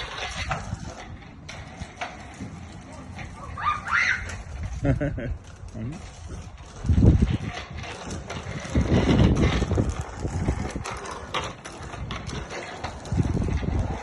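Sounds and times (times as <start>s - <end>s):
bicycle drivetrain ticking: 0.0s - 14.0s
wind rumbling on microphone: 0.0s - 14.0s.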